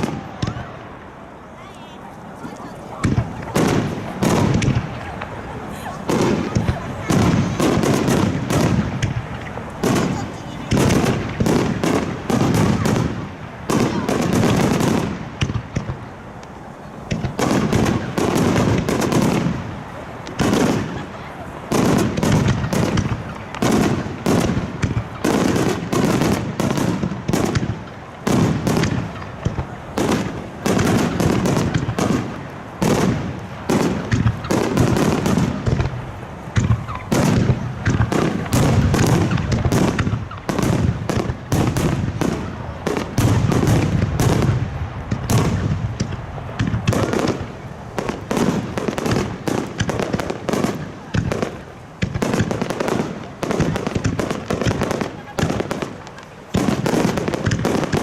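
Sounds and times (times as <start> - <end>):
firework shells bursting: 3.0 - 58.0.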